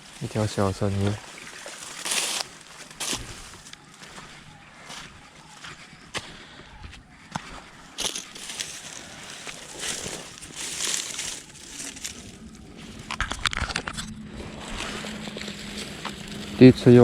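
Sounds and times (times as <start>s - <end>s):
rustling and crunching: 0.0s - 17.0s.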